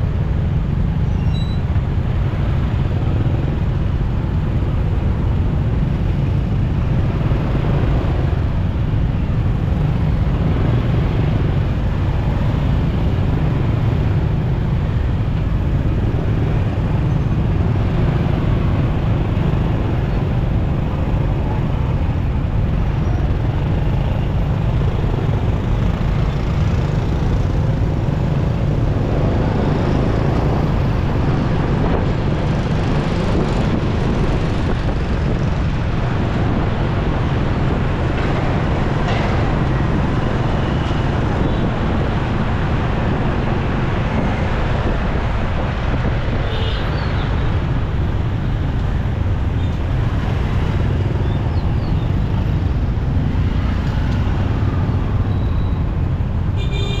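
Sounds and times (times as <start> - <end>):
passing vehicles: 0.0 - 57.0
wind rush while riding: 0.0 - 57.0.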